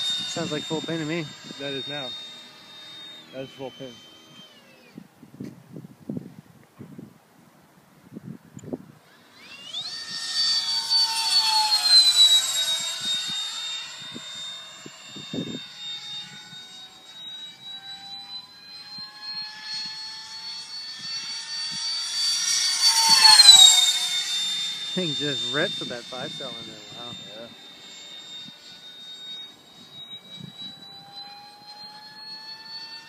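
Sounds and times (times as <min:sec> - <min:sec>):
model jet fan whine flying past: 0:00.0 - 0:33.0.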